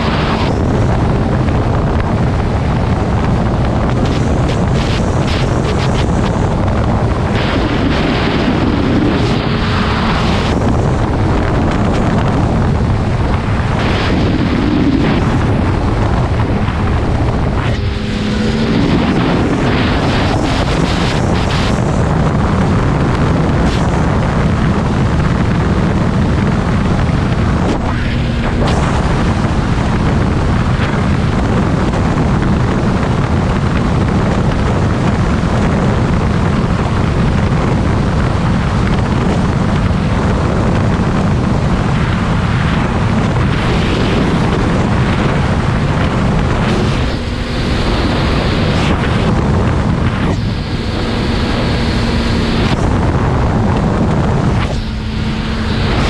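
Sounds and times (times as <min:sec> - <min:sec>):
snowmobile engine running: 0:00.0 - 0:56.0
wind noise on microphone: 0:00.0 - 0:56.0.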